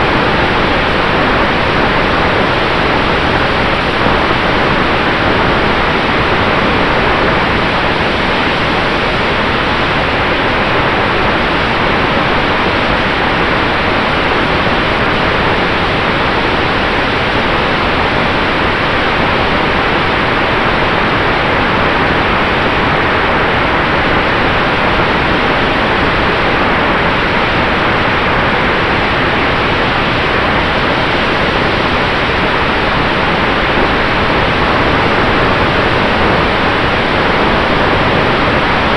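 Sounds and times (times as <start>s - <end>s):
wind and propeller wash: 0.0s - 38.9s.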